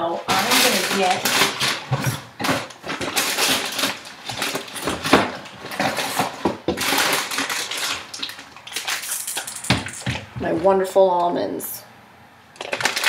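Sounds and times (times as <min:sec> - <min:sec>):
packages rustling and clattering: 0:00.2 - 0:10.8, 0:12.6 - 0:13.0.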